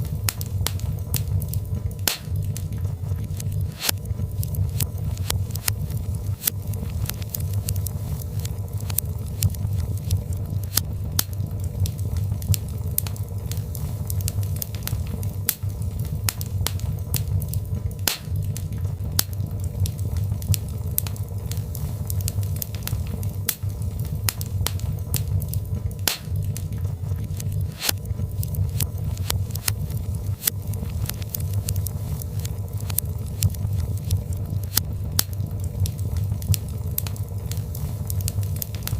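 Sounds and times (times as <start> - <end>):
burning logs rumbling: 0.0 - 38.9
fire snapping and popping: 0.0 - 38.9.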